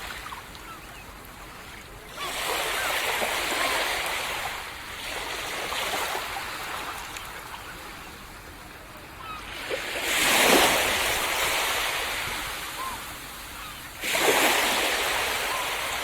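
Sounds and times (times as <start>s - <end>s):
ocean waves on sandy beach: 0.0s - 16.0s.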